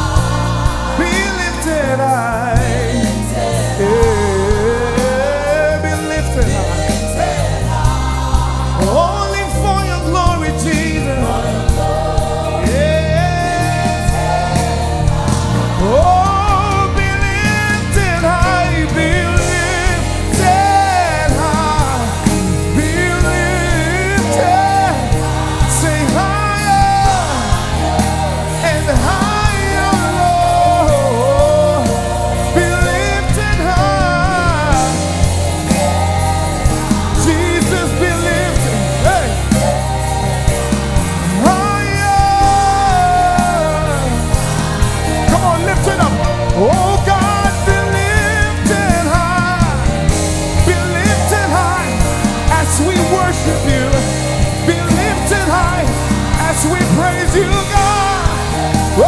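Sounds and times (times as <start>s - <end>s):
steady drum beat: 0.0s - 59.0s
worship band playing: 0.0s - 59.0s.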